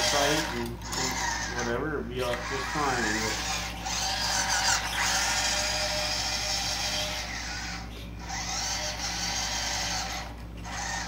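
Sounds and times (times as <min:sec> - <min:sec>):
toy truck electric motor whining: 0:00.0 - 0:11.0.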